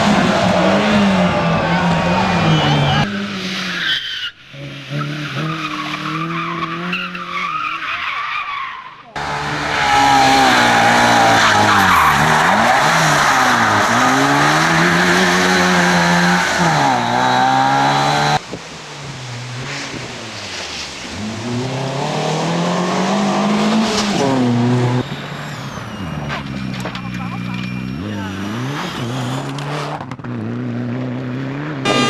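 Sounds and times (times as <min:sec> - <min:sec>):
race car engines revving: 0:00.0 - 0:32.0
tyres skidding: 0:00.0 - 0:32.0.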